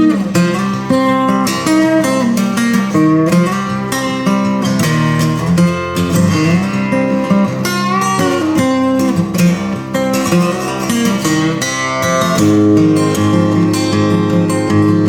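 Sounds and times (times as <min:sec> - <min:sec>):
instrumental guitar music: 0:00.0 - 0:15.0.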